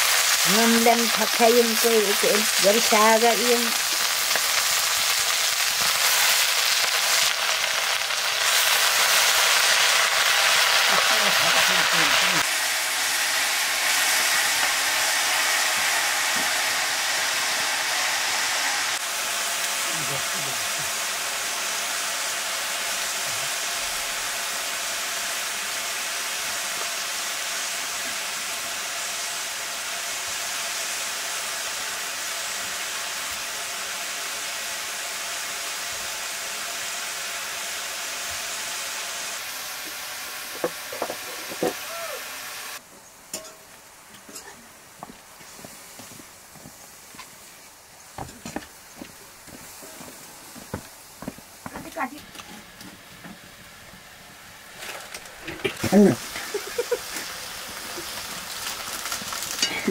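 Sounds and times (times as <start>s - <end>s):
greens sizzling in a wok: 0.0s - 59.9s.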